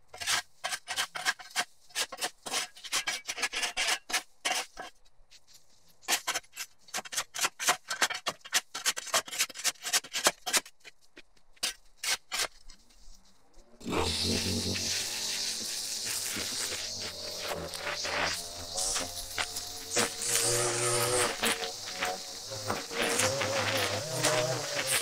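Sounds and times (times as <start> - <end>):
shovel scraping concrete: 0.1 - 5.0, 6.0 - 10.9, 11.6 - 12.7, 13.8 - 25.0.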